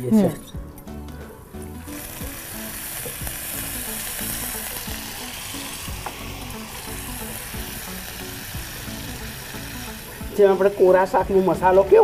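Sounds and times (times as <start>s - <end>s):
oil sizzling in a pan: 0.9s - 12.0s.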